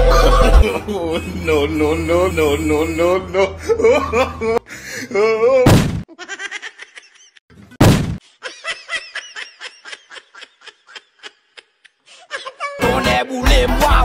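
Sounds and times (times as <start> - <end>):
person laughing: 0.0 - 7.4, 8.3 - 12.8.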